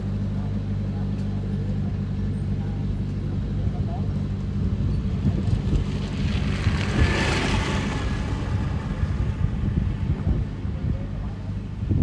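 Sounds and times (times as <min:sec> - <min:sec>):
diesel construction machinery running: 0:00.0 - 0:12.0.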